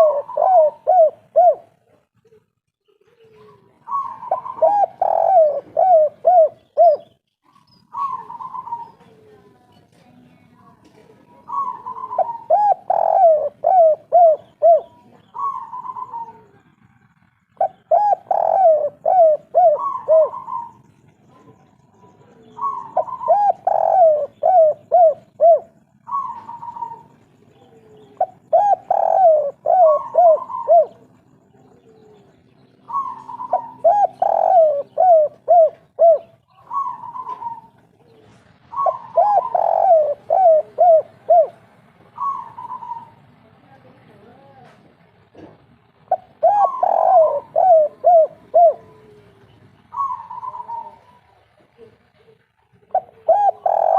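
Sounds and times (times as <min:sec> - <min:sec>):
dove cooing: 0:00.0 - 0:09.6, 0:10.9 - 0:43.5, 0:45.4 - 0:53.9.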